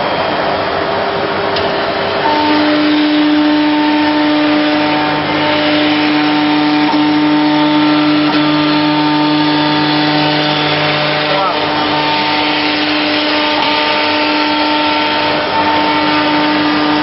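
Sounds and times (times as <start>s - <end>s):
loud rushing noise: 0.0s - 17.0s
router machine whine: 0.0s - 17.0s.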